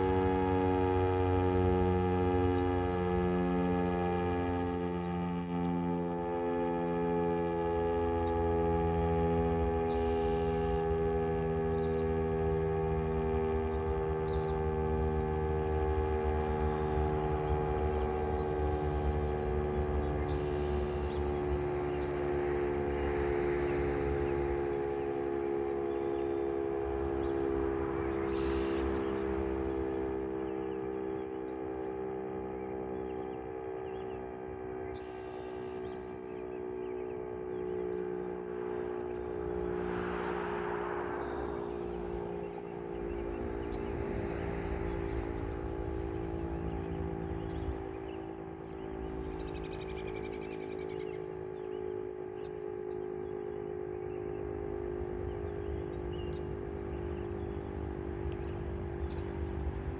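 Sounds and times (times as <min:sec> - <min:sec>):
fire siren steady tone: 0:00.0 - 0:59.9.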